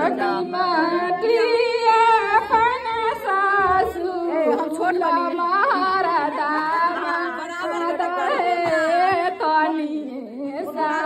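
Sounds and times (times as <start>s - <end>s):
people singing together: 0.0s - 11.0s.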